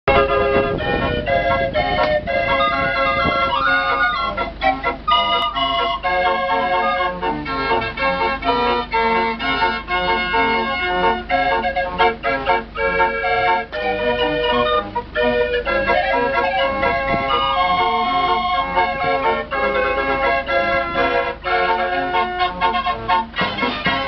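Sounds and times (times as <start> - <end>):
fairground organ playing: 0.1 - 24.0.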